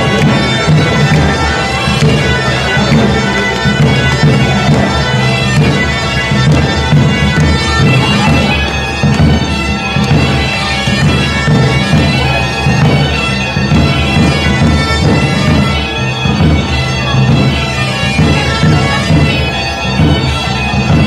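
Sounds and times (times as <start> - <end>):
bagpipe playing dance music: 0.0 - 21.0
drumbeat: 0.0 - 21.0.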